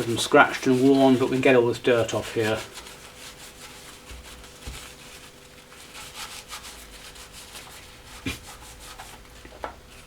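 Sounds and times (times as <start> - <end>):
wipe rubbing on pedal panel: 0.0 - 9.3.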